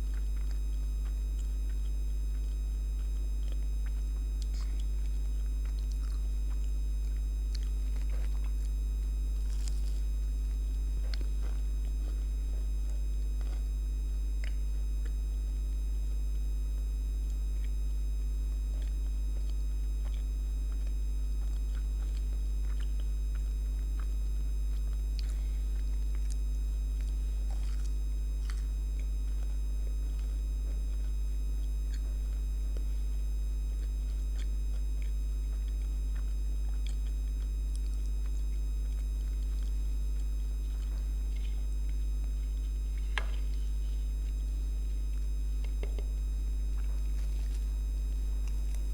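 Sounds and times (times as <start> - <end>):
electrical buzz from light: 0.0 - 48.9
small clicks and crackles: 0.0 - 48.9.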